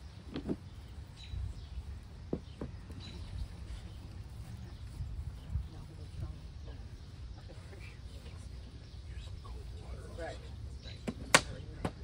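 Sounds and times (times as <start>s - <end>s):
bird chirps: 0.0s - 11.8s
low outdoor rumble: 0.0s - 12.0s.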